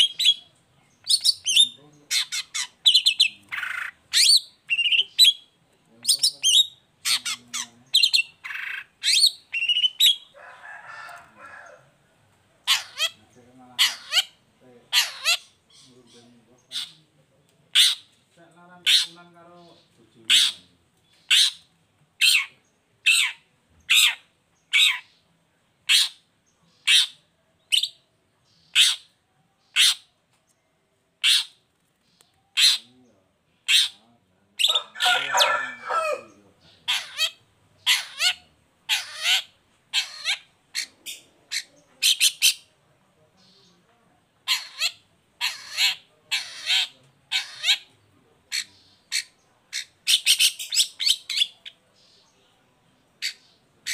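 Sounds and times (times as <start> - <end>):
bird chattering: 0.0 - 11.8, 12.6 - 30.2, 31.2 - 53.9
bird harsh rasping calls: 0.0 - 11.9, 12.6 - 17.1, 17.7 - 18.2, 18.8 - 25.2, 25.8 - 30.2, 31.2 - 42.8, 44.4 - 52.4, 53.0 - 53.9.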